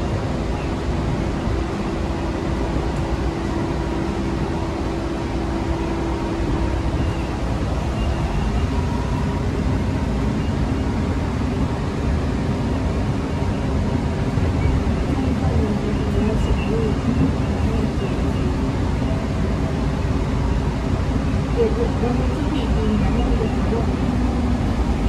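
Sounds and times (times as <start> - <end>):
rumble of rubber tyres: 0.0 - 25.0
vehicle hum: 0.0 - 25.0.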